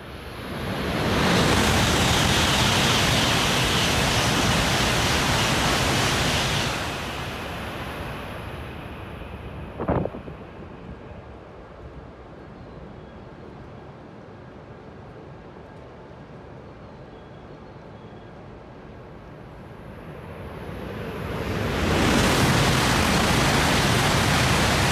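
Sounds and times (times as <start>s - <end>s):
train passing at high speed: 0.0s - 24.9s.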